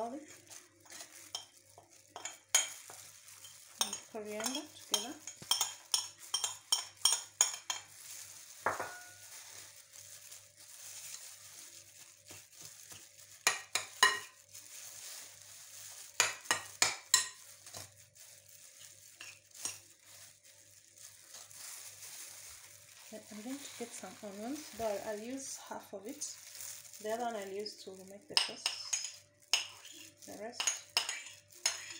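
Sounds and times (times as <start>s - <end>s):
hand mixing minced meat: 0.0s - 31.9s.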